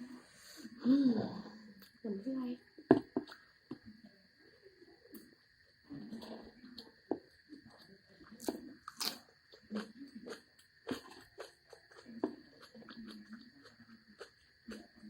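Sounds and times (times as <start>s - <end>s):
chewing and crunching food: 2.6s - 15.0s.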